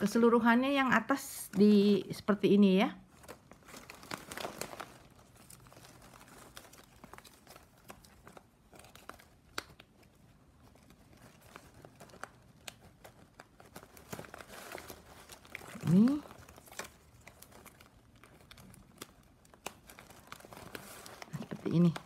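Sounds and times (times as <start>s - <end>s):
plastic strapping crinkling and clicking: 3.0s - 22.0s.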